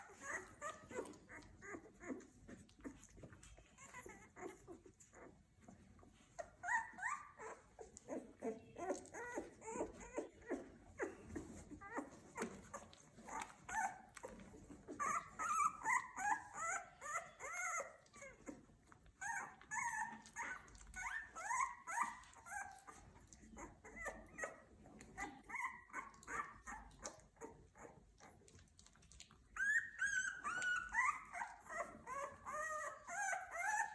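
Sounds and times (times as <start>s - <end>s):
puppies squeaking and whimpering: 0.0s - 33.9s
puppy suckling: 0.0s - 33.9s.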